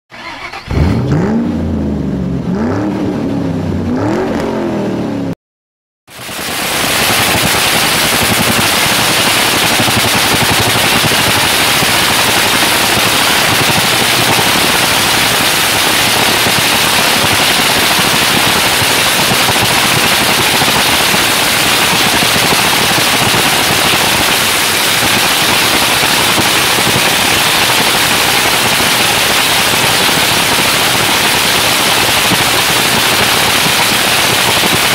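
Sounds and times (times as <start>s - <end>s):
supercharged engine crackling rattle: 0.1s - 5.1s, 6.1s - 34.9s.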